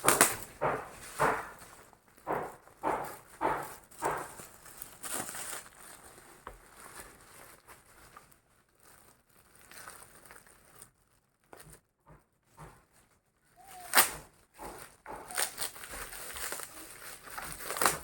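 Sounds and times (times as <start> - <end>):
packaging crinkling and rustling: 0.0 - 11.9, 12.9 - 18.0.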